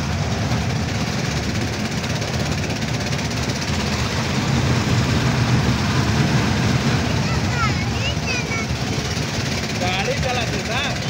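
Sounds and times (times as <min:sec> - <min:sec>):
low rumble of ride wheels: 0:00.0 - 0:11.0.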